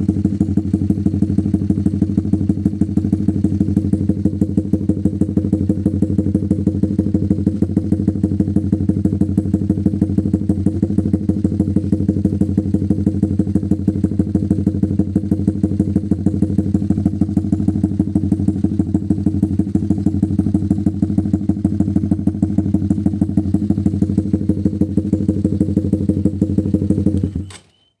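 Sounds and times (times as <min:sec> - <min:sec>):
motorcycle engine idling: 0:00.0 - 0:27.7.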